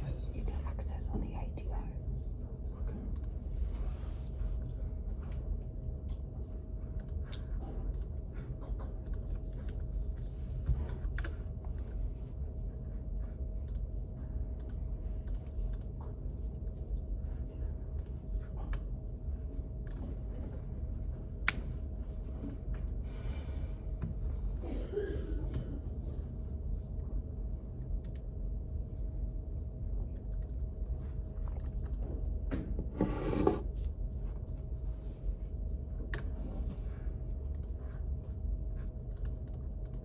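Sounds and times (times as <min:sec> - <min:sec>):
low room hum: 0:00.0 - 0:40.0.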